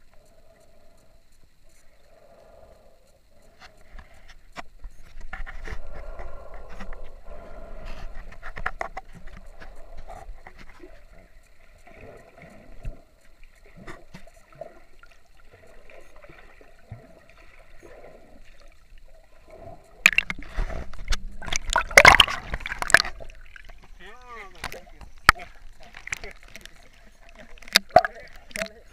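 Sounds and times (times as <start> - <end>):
underwater gurgling: 3.5 - 28.9
water splashing and sloshing: 3.5 - 28.9.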